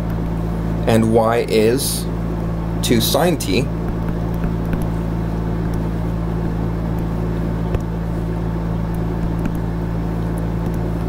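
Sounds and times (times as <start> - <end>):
low hum of held tones: 0.0 - 11.0.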